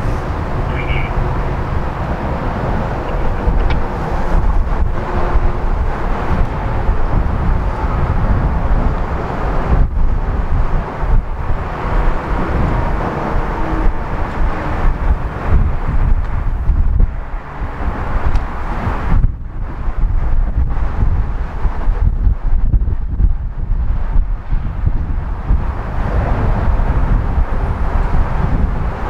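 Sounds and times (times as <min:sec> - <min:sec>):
diesel locomotive engine rumble: 0:00.0 - 0:29.0
wind on microphone: 0:00.0 - 0:29.0.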